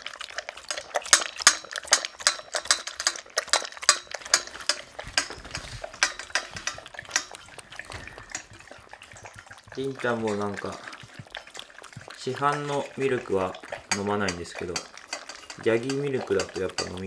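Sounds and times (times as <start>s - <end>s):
cat lapping milk: 0.0s - 17.0s
dog lapping from metal bowl: 0.0s - 17.0s.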